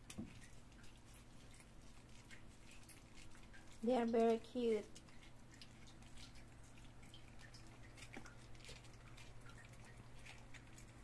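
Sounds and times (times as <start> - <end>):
low steady hum: 0.0 - 11.0
puppies chewing and lapping: 0.0 - 11.0.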